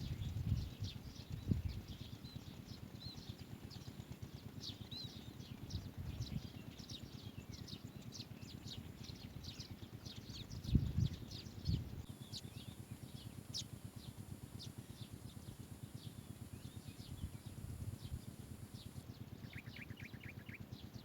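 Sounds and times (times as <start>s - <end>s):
bird chicks chirping: 0.0s - 21.0s.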